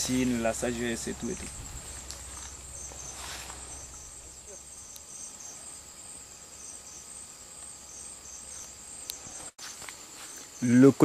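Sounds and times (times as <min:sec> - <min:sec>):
high-pitched insect drone: 0:00.0 - 0:11.0
insect chirp: 0:00.0 - 0:11.0.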